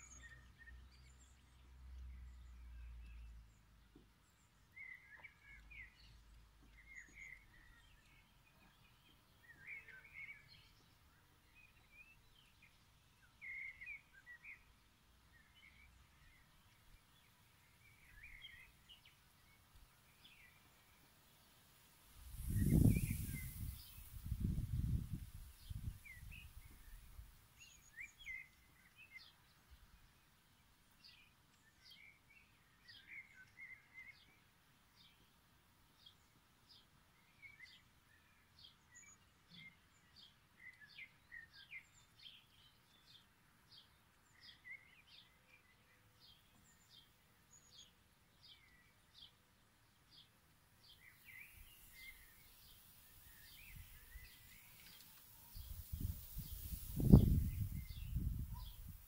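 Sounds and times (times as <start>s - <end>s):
soft bird chirps: 0.0s - 59.0s.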